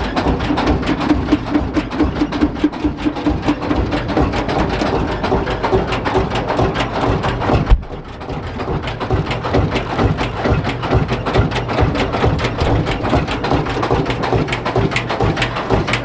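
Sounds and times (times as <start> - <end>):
engine idling with fast knocks: 0.0 - 16.0.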